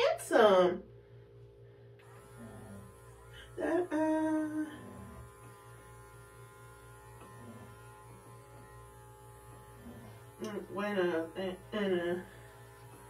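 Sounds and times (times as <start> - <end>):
electric clippers humming: 2.0 - 13.0.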